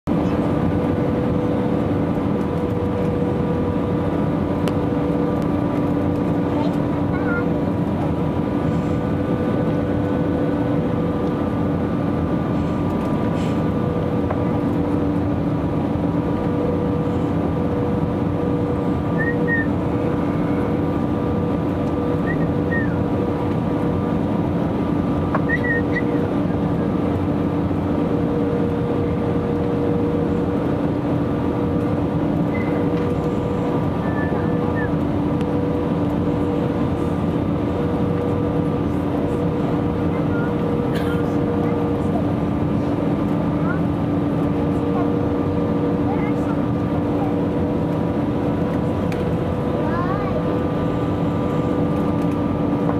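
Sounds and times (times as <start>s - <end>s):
jet engine cabin noise: 0.0s - 52.9s.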